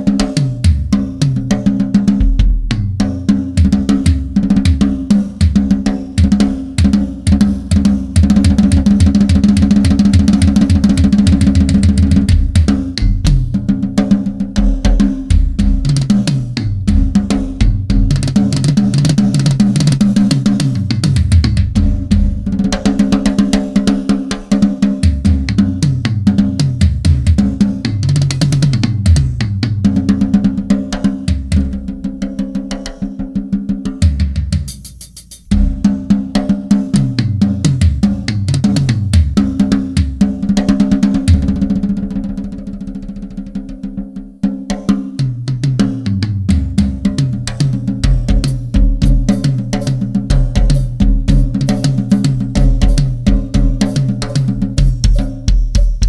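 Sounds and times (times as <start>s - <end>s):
bass drum: 0.0s - 56.0s
tom-tom and snare drum patterns: 0.0s - 56.0s.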